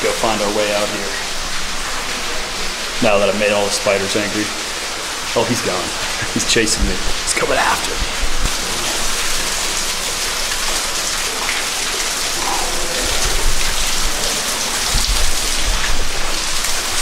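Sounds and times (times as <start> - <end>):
waterfall splashing in cave: 0.0 - 17.0.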